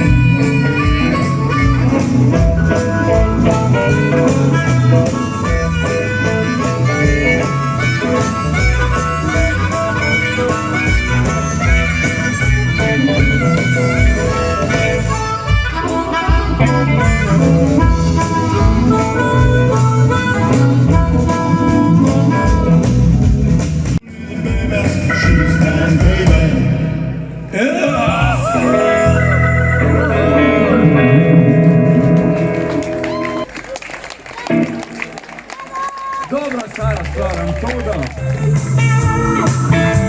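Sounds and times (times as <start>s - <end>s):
harmonica lead: 0.0s - 26.9s, 28.0s - 33.4s, 38.5s - 40.0s
live blues band playing: 0.0s - 40.0s.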